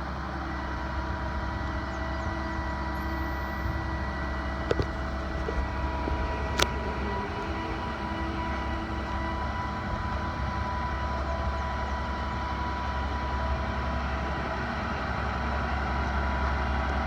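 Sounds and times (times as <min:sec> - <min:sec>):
diesel engine running: 0:00.0 - 0:17.0
thin steady hydraulic whine: 0:00.0 - 0:17.0.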